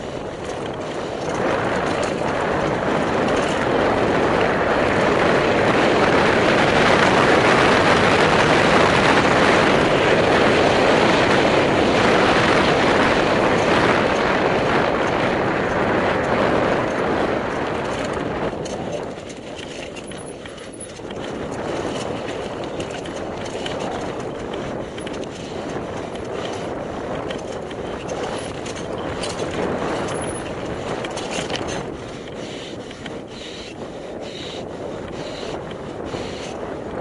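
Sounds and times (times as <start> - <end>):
bike clicking and rattling: 0.0 - 37.0
bike tyres on dirt: 0.0 - 37.0
wind on microphone: 0.0 - 37.0.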